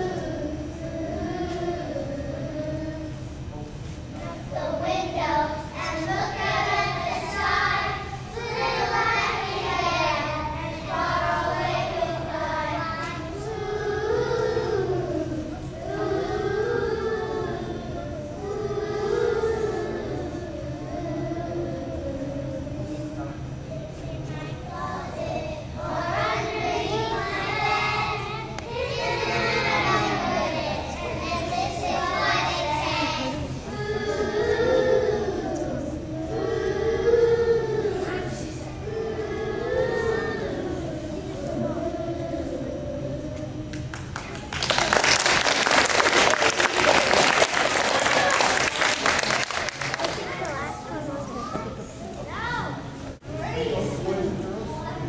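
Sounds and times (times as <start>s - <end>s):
children singing together: 0.0s - 3.4s, 4.1s - 55.0s.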